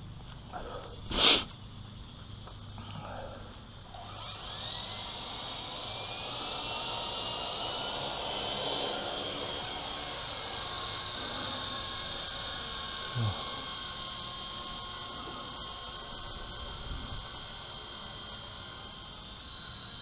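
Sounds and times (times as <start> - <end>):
helicopter motor and rotor whine: 0.0 - 20.0.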